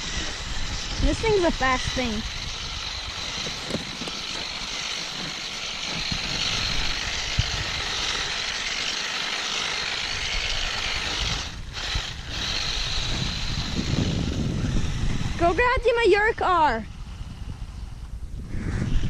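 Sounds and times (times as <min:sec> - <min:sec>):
toy car electric motor whirring: 0:00.0 - 0:18.1, 0:18.7 - 0:19.0
wheels spinning over ice and snow: 0:00.0 - 0:19.0.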